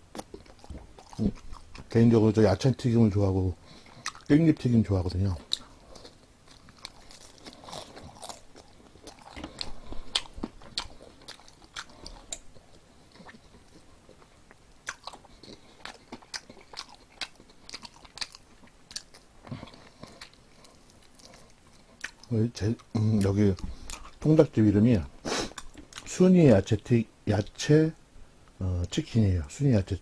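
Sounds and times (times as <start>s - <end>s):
crunchy fried chicken being chewed: 0.0s - 26.2s.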